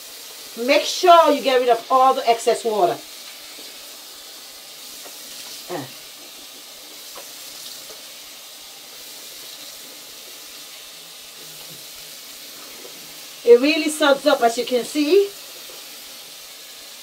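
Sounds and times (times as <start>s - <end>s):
water running from tap: 0.0s - 17.0s.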